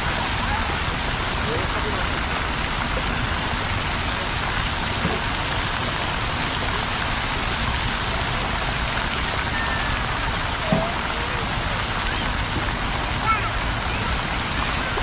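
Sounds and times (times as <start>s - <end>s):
fountain water splashing into pool: 0.0s - 15.0s.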